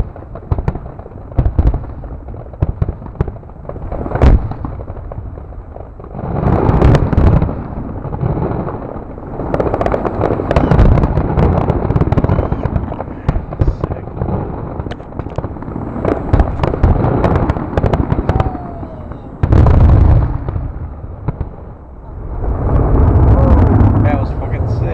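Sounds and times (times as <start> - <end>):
fireworks booming and crackling: 0.0 - 24.9.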